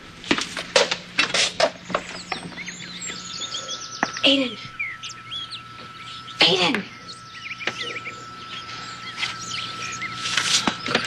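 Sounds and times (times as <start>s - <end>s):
small birds chirping: 1.6s - 11.0s.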